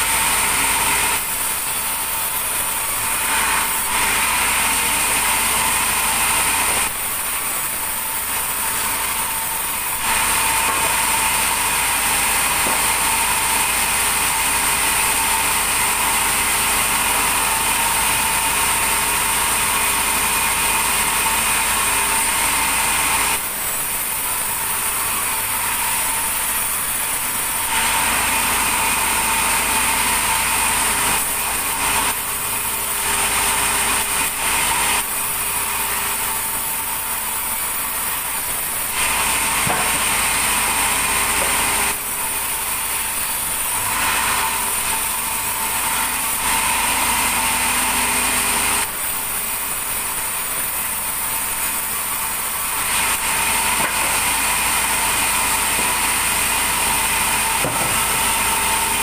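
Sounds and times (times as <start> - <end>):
machine running with high whine: 0.0 - 59.0.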